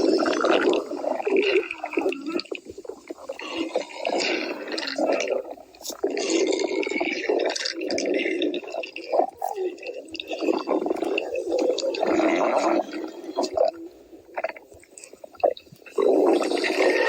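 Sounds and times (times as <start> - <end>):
cartoon stomach growling: 0.0 - 17.0.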